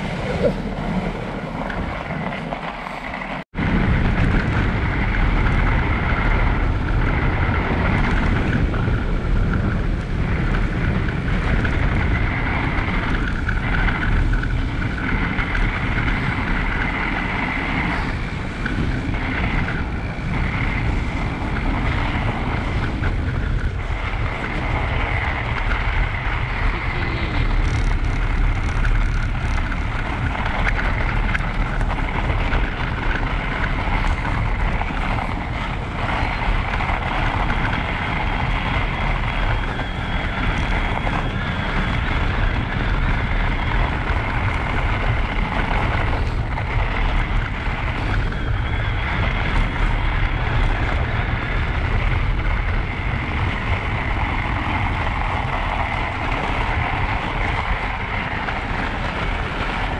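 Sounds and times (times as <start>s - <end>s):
tyres rolling on snow: 0.0s - 59.9s
wind on microphone: 0.0s - 59.9s.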